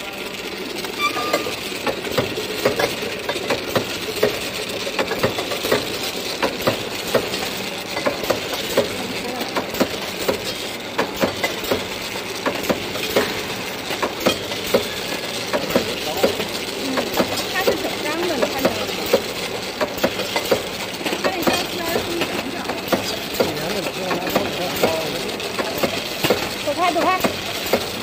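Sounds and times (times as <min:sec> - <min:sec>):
conveyor mechanical hum: 0:00.0 - 0:28.0.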